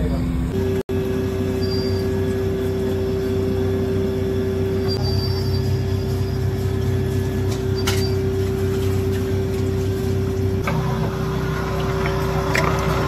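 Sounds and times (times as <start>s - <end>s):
meat mincer motor humming: 0.9s - 13.0s.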